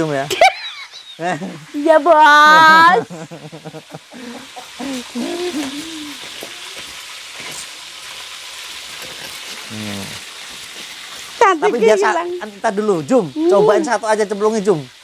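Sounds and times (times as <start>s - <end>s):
chicken frying in hot oil: 0.0s - 15.0s.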